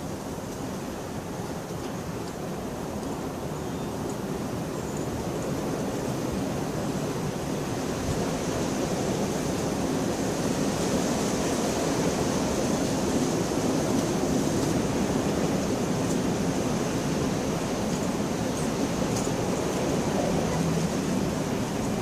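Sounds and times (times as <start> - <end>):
steady downpour of rain: 0.0 - 22.0.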